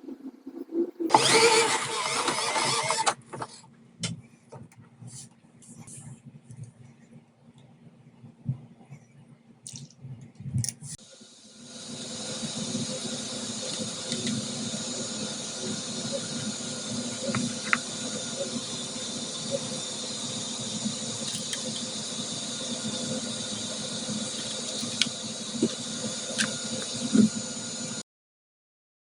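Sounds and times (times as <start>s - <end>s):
turbine engine whine through speaker: 0.0s - 7.3s, 10.3s - 28.0s.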